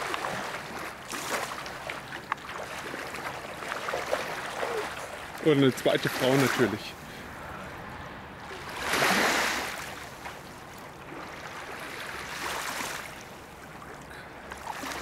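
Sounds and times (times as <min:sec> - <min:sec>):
water splashing around swimmer: 0:00.0 - 0:07.2, 0:08.4 - 0:15.0.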